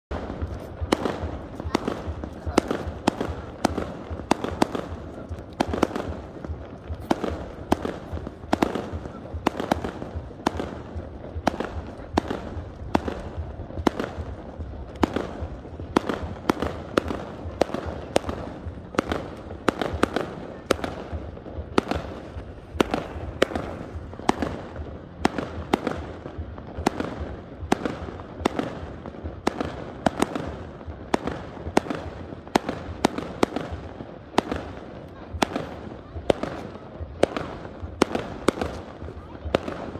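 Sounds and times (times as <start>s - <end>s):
fireworks bangs and crackles: 0.1s - 39.9s.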